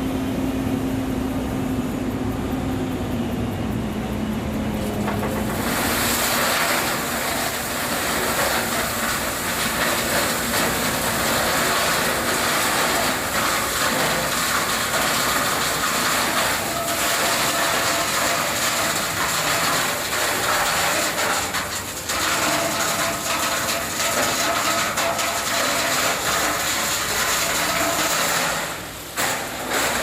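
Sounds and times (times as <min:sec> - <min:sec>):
dump truck engine running: 0:00.0 - 0:30.0.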